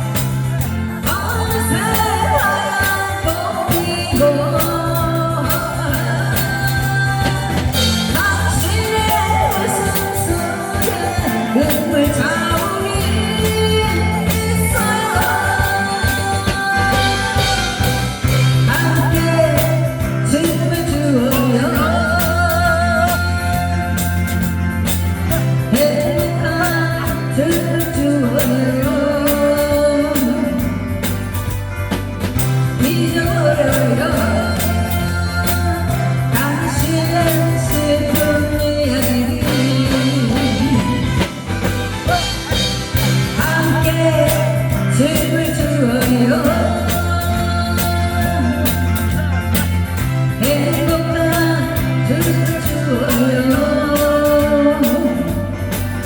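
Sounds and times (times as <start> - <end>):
music with steady beat and bass: 0.0 - 56.0
person singing with vibrato: 0.0 - 56.0.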